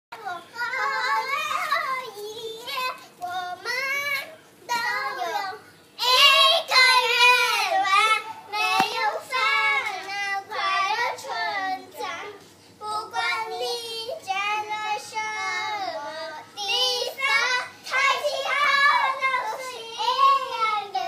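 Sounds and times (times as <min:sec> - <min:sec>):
young children singing: 0:00.2 - 0:21.0.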